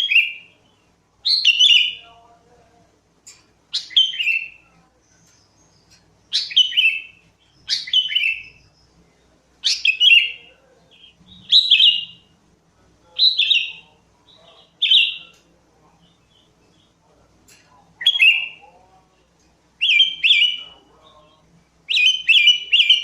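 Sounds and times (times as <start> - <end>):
bulbul singing: 0.0 - 2.4, 3.2 - 12.4, 13.0 - 23.0.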